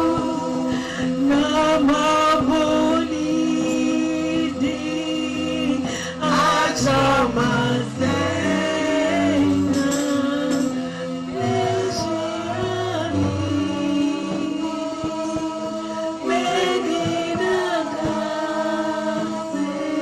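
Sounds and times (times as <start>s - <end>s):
voices singing gospel music: 0.0s - 20.0s.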